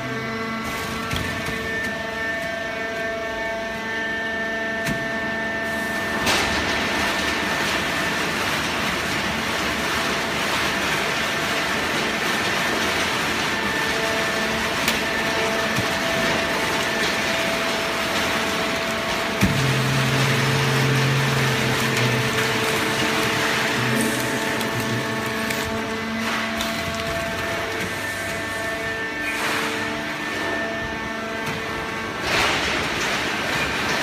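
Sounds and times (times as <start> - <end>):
baling press mechanical hum: 0.0 - 34.0.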